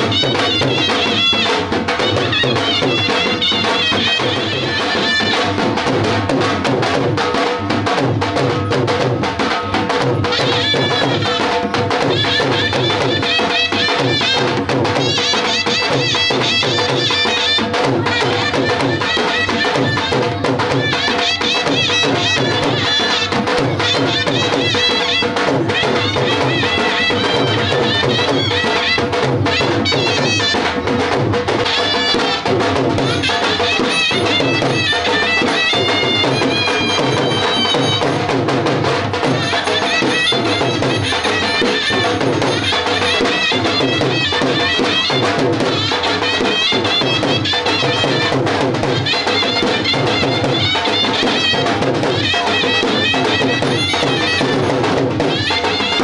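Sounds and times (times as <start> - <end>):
drum beat: 0.0 - 56.0.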